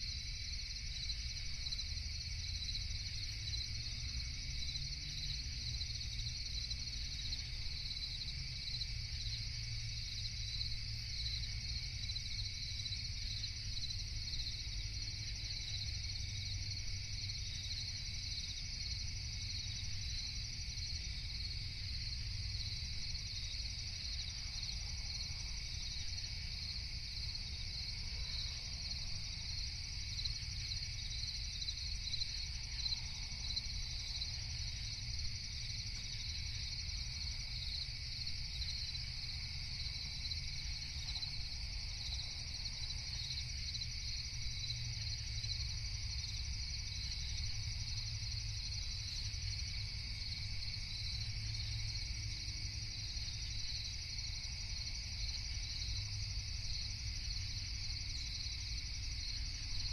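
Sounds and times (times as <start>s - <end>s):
crickets chirring: 0.0s - 59.9s
low constant rumble: 0.0s - 59.9s.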